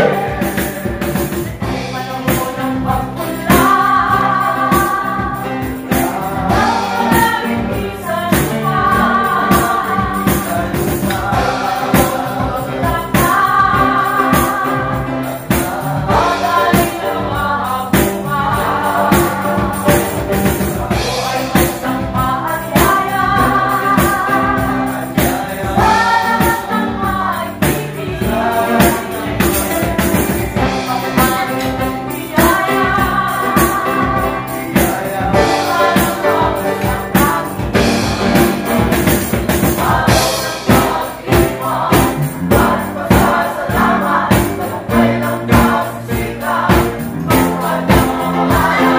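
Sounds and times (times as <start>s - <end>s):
live band music: 0.0s - 48.9s
several voices singing together: 0.0s - 48.9s.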